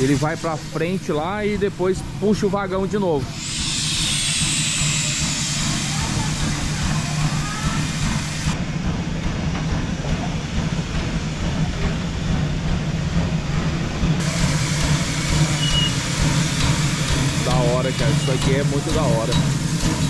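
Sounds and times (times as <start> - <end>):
steam locomotive rumbling: 0.0 - 20.0.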